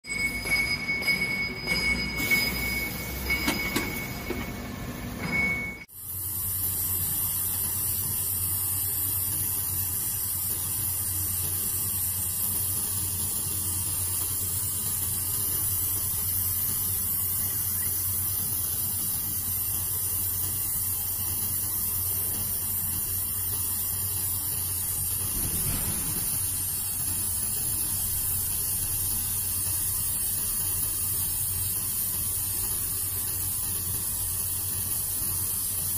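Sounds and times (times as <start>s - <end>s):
uneven machine noise with squeal: 0.1s - 5.9s, 10.5s - 35.9s
welding machine hiss: 1.2s - 35.9s.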